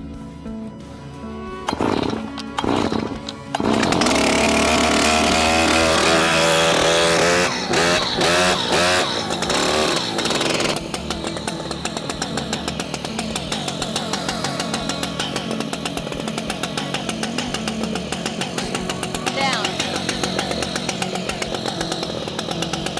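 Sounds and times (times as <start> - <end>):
chainsaw revving and idling: 1.7 - 22.9.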